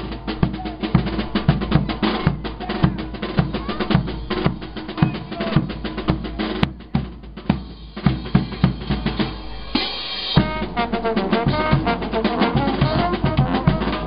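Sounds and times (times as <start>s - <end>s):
bass drums and snare beating: 0.0s - 14.0s
brass band playing: 0.0s - 14.0s.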